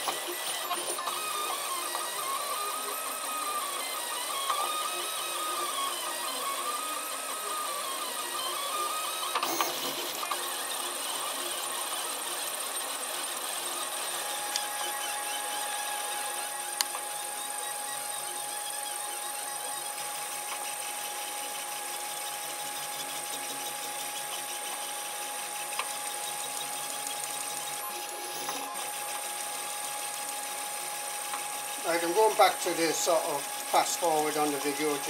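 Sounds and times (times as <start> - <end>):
stepper motors whining: 0.0 - 35.0.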